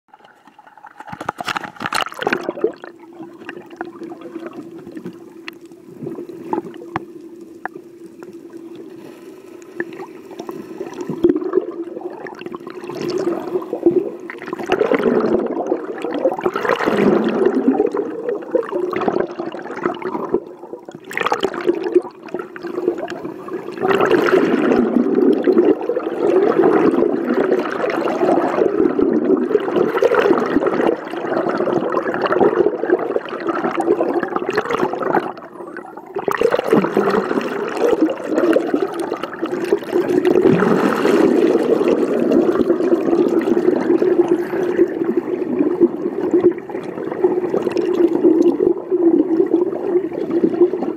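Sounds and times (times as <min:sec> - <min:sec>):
muffled underwater rushing water: 0:00.1 - 0:50.9.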